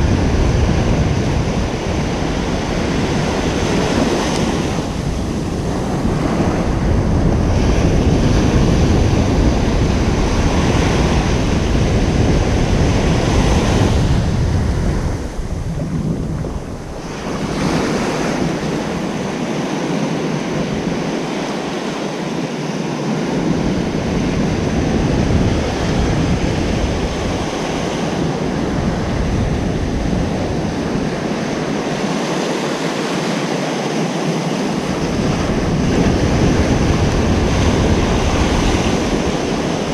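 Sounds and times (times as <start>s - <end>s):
ocean waves washing onto beach: 0.0s - 39.9s
wind buffeting microphone: 0.0s - 39.9s.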